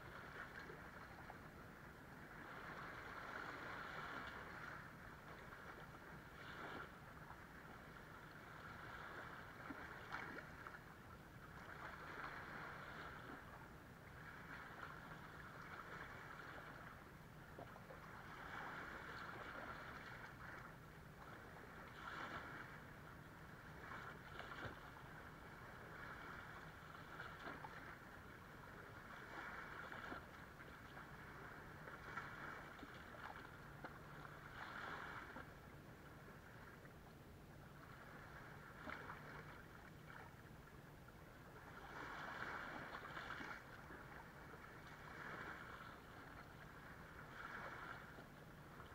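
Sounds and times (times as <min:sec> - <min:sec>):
small waves lapping on sand: 0:00.0 - 0:48.9.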